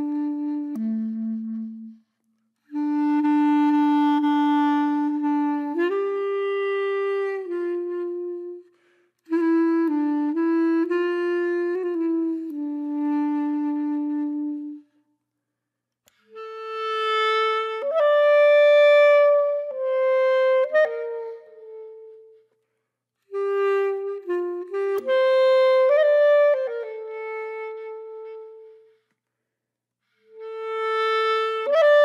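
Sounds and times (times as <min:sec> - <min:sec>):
slow wind instrument melody: 0:00.0 - 0:15.1, 0:16.1 - 0:29.2, 0:30.0 - 0:32.0.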